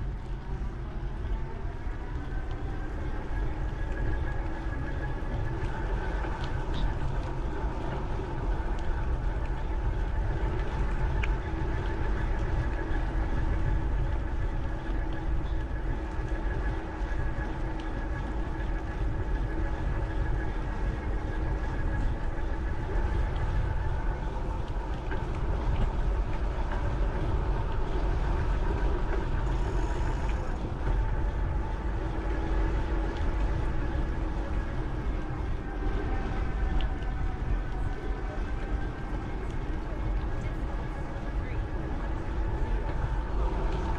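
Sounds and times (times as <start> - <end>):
bicycle rolling noise: 0.0 - 43.9
steady hum: 0.0 - 43.9
wind buffeting microphone: 0.0 - 43.9.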